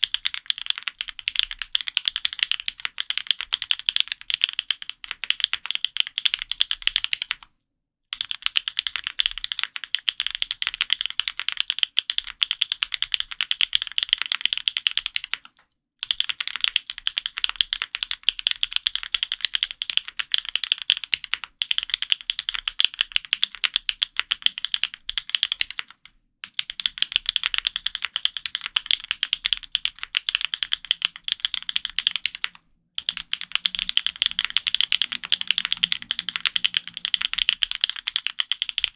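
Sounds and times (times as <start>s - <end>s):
mechanical keyboard typing: 0.0s - 7.5s, 8.1s - 38.9s.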